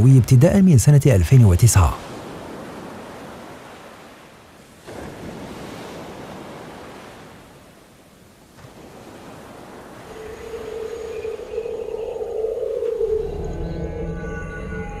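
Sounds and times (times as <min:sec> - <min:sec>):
waves washing ashore: 0:00.0 - 0:13.3.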